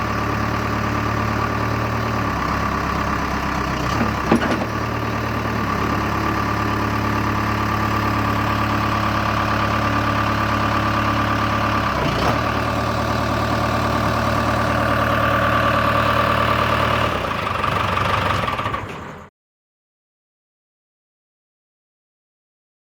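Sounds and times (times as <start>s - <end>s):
diesel engine running: 0.0s - 19.3s.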